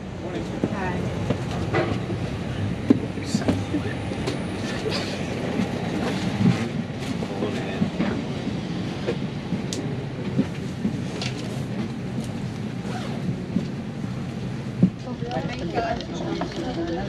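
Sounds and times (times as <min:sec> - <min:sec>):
murmur of passenger voices: 0:00.0 - 0:17.0.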